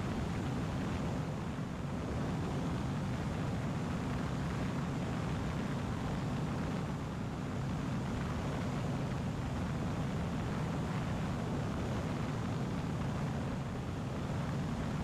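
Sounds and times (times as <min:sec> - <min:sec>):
light aircraft engine drone: 0:00.0 - 0:15.0
wind noise over airframe: 0:00.0 - 0:15.0.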